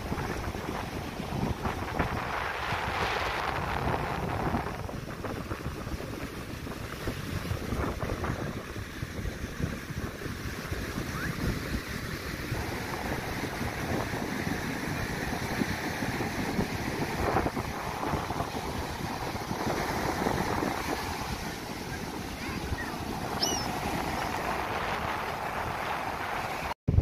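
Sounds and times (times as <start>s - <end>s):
ocean surf breaking: 0.0s - 26.8s
wind buffeting microphone: 0.0s - 27.0s.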